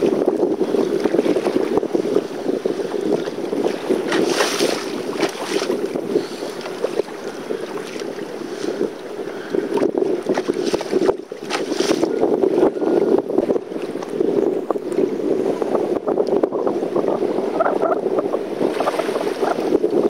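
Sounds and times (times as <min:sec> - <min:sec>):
water slapping against kayak hull: 0:00.0 - 0:15.1, 0:18.5 - 0:20.0
wind buffeting microphone: 0:00.0 - 0:20.0.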